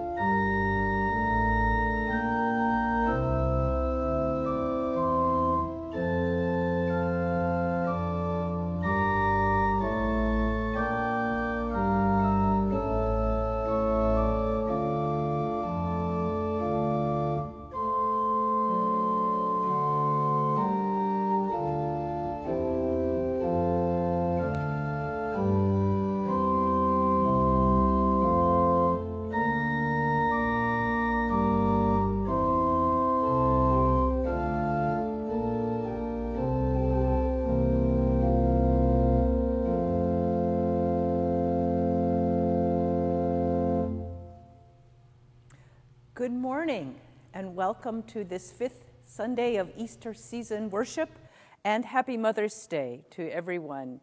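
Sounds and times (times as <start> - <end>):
pipe organ chords: 0.0 - 46.1.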